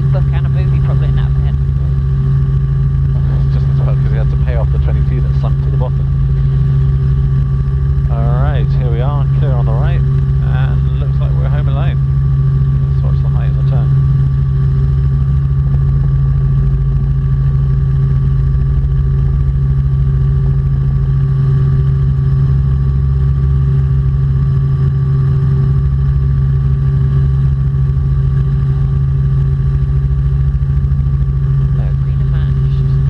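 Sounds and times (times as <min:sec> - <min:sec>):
helicopter engine and rotors droning: 0:00.0 - 0:33.0.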